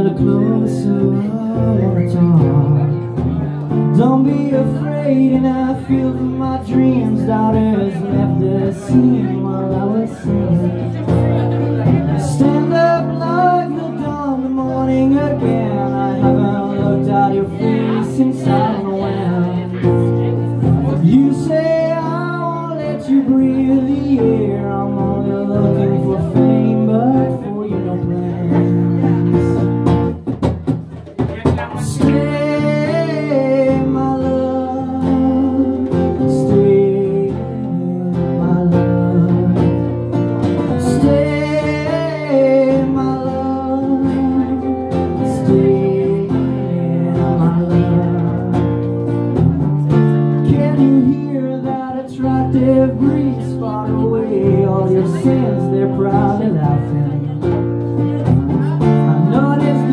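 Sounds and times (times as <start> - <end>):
man singing: 0.0 - 30.4, 31.0 - 59.9
acoustic guitar strumming: 0.0 - 59.9.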